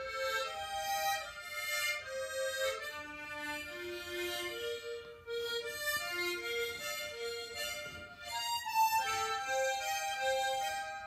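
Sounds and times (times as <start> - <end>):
tremolo harmonica melody: 0.0 - 11.0.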